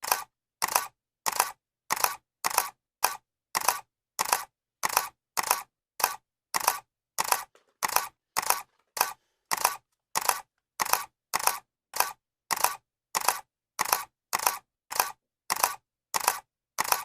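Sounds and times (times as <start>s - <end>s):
camera shutter clicking: 0.0s - 17.0s.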